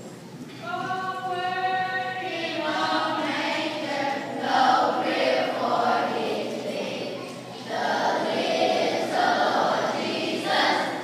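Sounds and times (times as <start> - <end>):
children's choir singing: 0.6 - 11.0.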